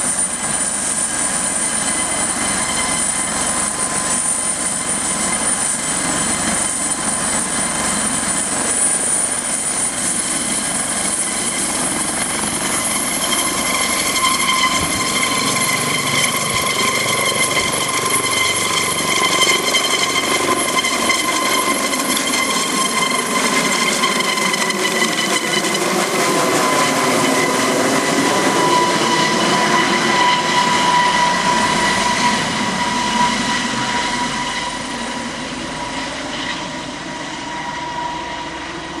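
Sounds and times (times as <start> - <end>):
helicopter flying overhead: 0.0 - 39.0.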